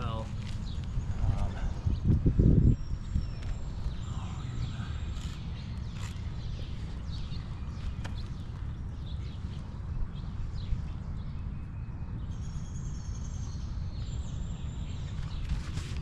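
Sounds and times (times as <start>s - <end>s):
birds chirping: 0.0s - 16.0s
wind buffeting microphone: 0.0s - 16.0s.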